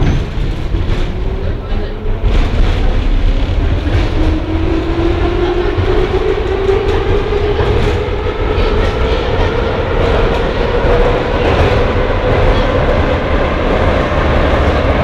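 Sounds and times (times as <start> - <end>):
train rumble with rail noise: 0.0 - 15.0.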